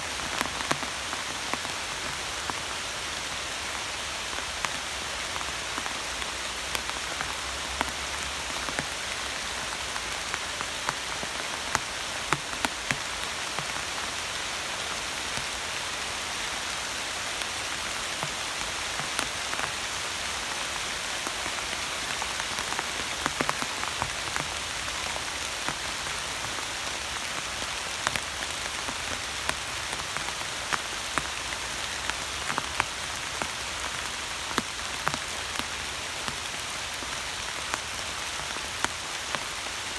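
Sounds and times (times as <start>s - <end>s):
raindrops striking close by: 0.0s - 39.9s
steady rain hiss: 0.0s - 39.9s.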